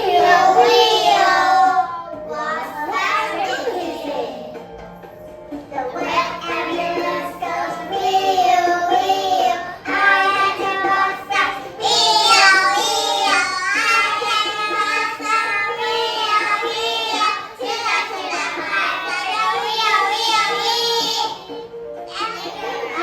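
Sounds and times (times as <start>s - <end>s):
children singing: 0.0s - 4.8s, 5.7s - 23.0s
music: 0.0s - 23.0s.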